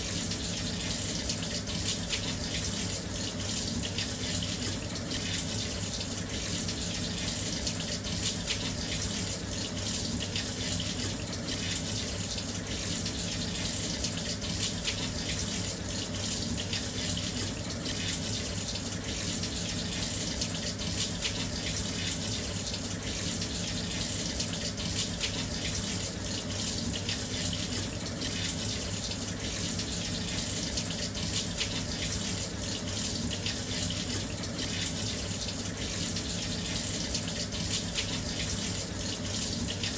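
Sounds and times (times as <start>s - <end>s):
water pouring into drum: 0.0s - 39.9s.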